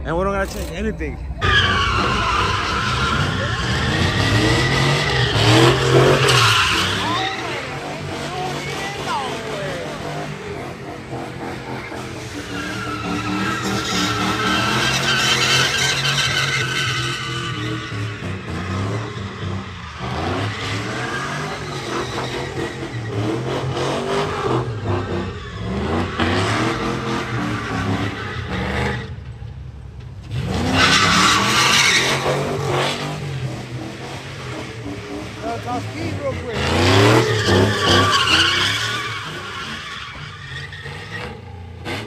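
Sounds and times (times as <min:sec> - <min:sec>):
pickup engine revving: 0:00.0 - 0:29.1, 0:30.2 - 0:42.0
tyres squealing on pavement: 0:00.0 - 0:29.5, 0:30.2 - 0:42.0.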